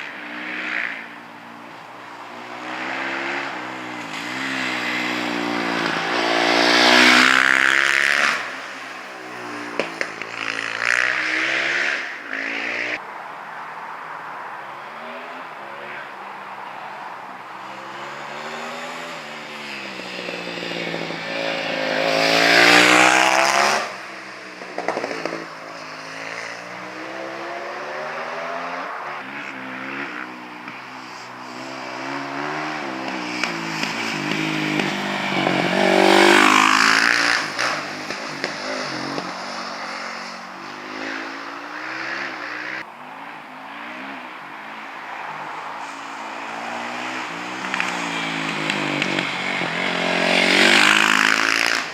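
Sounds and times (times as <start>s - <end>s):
racing motorcycle engines revving: 0.0s - 13.0s, 16.8s - 51.9s.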